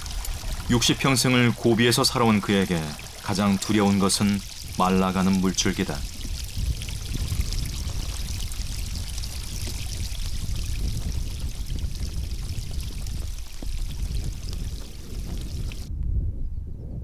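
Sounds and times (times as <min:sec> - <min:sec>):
stream trickling over stones: 0:00.0 - 0:15.9.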